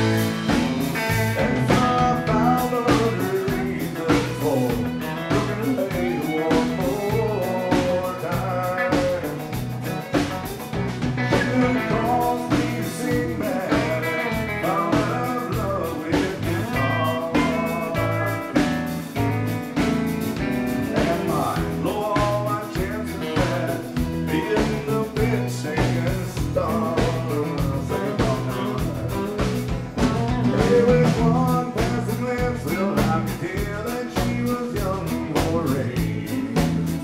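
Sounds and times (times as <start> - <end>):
bass guitar: 0.0 - 37.0
drum beat: 0.0 - 37.0
electric guitar lead lines: 0.0 - 37.0.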